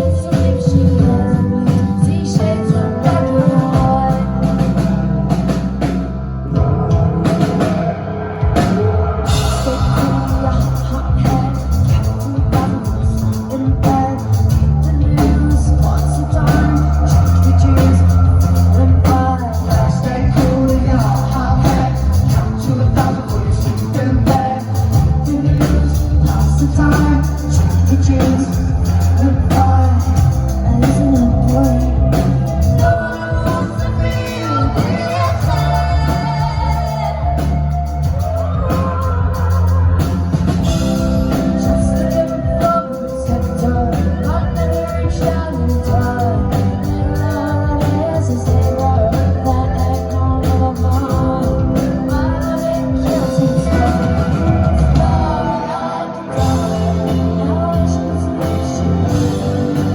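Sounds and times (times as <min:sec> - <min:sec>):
woman singing: 0:00.0 - 0:05.9, 0:06.5 - 0:59.9
rock band playing live: 0:00.0 - 0:59.9.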